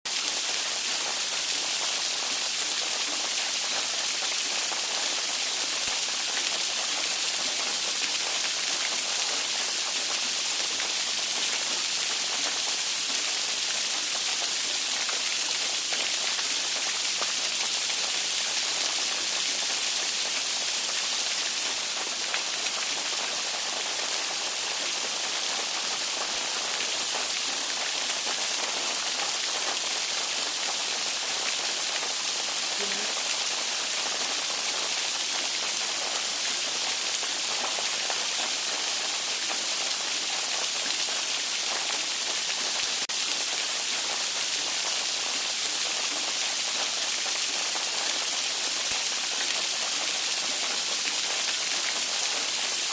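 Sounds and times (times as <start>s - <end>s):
steady rain hiss: 0.1s - 52.9s.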